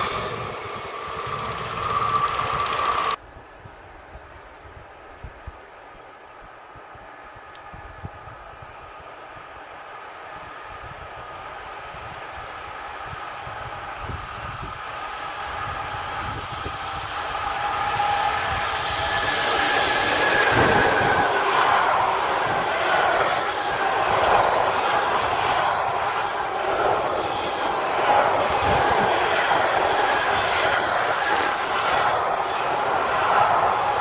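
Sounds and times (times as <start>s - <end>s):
train wheels rolling on rails: 0.0s - 3.2s, 7.1s - 34.0s.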